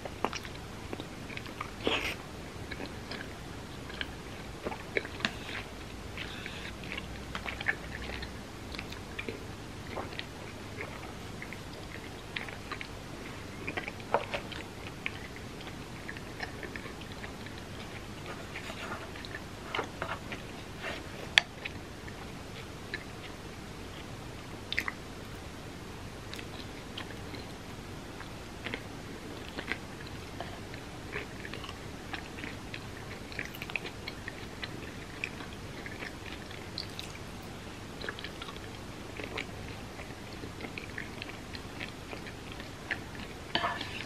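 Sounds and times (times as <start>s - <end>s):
person chewing food: 0.0s - 25.4s, 26.2s - 27.6s, 28.2s - 44.0s.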